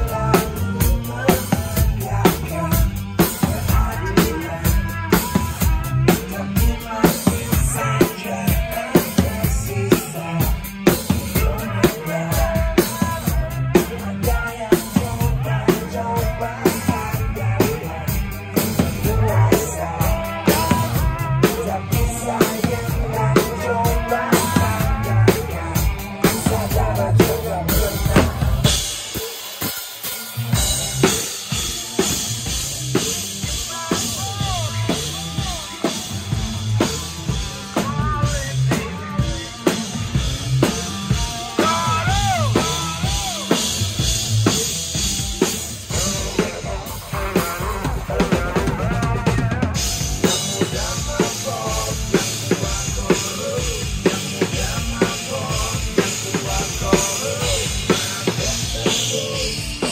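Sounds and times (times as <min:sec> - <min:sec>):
bass line: 0:00.0 - 0:59.9
drum kit beating: 0:00.0 - 0:59.9.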